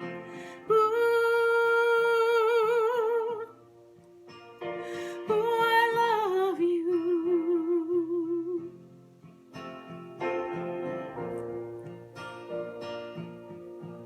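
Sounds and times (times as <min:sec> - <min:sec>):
soft musical accompaniment: 0:00.0 - 0:14.0.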